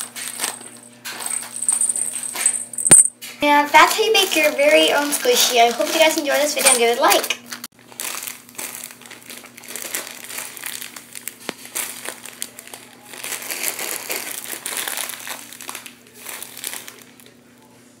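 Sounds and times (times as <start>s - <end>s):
plastic bag crinkling: 0.0s - 3.0s, 3.6s - 17.3s.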